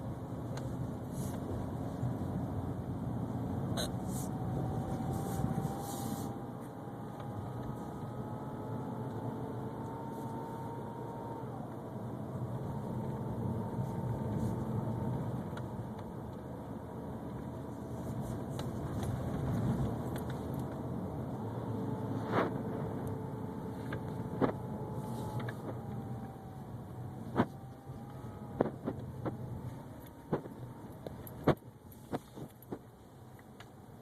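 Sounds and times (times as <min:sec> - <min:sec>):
car road and engine noise: 0:00.0 - 0:34.0
thin whine: 0:03.2 - 0:16.6, 0:17.3 - 0:32.8.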